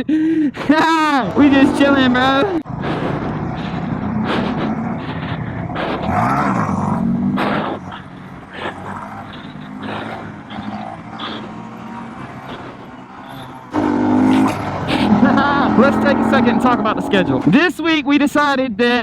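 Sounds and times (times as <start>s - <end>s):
mini bike engine revving: 0.7s - 17.6s.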